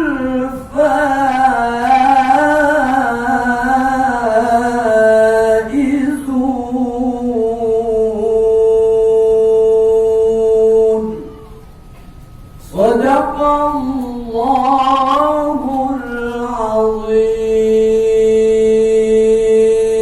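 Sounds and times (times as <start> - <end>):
man reciting melodically: 0.0 - 11.6, 12.6 - 20.0.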